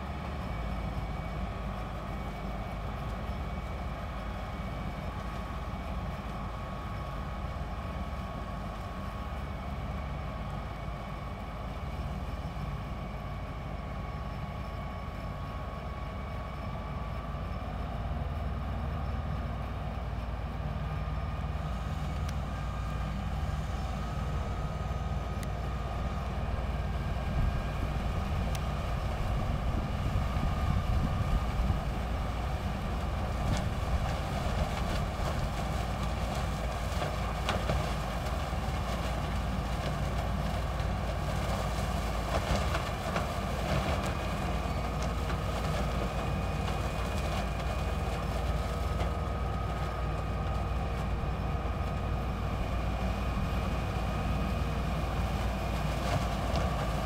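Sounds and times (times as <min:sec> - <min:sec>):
harvester engine drone: 0:00.0 - 0:57.0.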